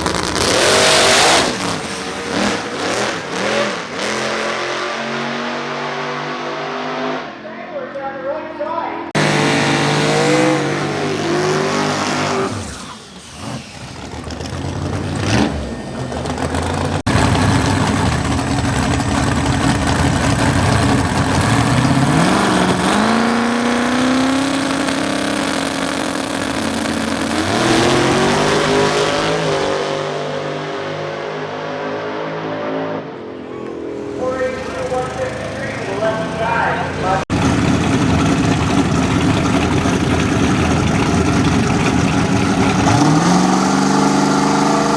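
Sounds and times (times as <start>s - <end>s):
race car engines revving: 0.0s - 7.5s, 9.0s - 44.9s.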